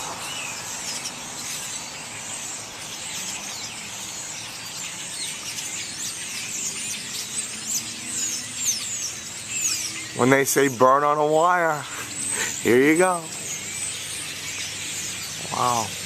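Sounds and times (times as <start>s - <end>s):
flock of birds calling: 0.0s - 16.0s.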